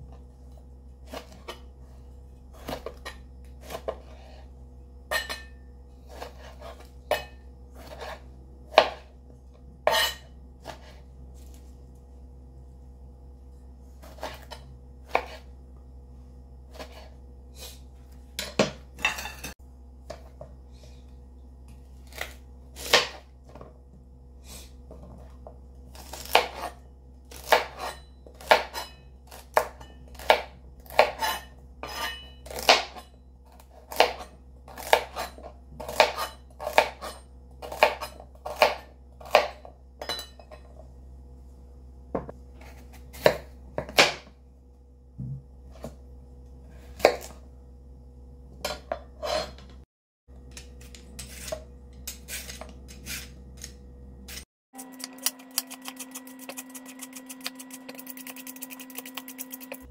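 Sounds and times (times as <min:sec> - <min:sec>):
faint low hum: 0:00.0 - 0:49.0.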